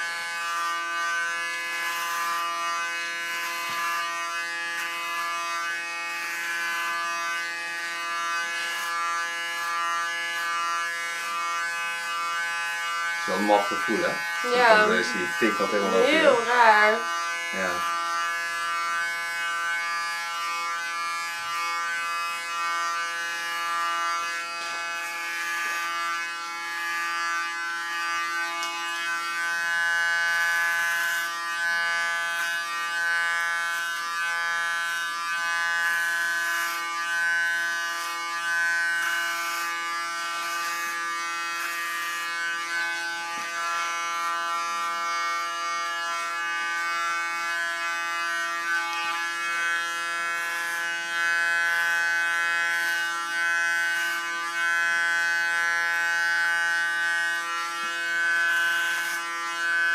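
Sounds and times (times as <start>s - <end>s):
blades cutting hair: 0.0s - 59.9s
electric hair clipper humming: 0.0s - 59.9s.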